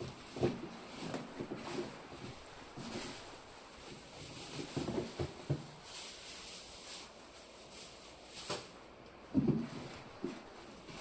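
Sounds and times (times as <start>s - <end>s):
faint hiss: 0.0s - 11.0s
wood fire crackling: 0.0s - 11.0s.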